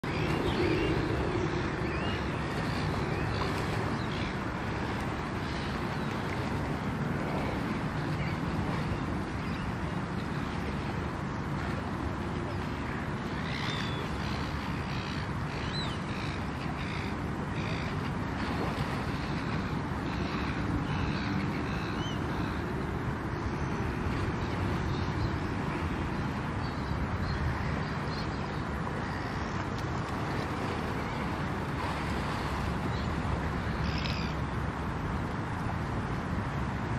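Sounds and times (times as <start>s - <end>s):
outdoor background noise: 0.0s - 36.9s.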